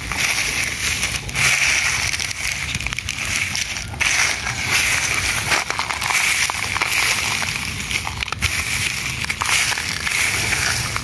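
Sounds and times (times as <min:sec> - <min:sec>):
dry leaves rustling: 0:00.0 - 0:11.0.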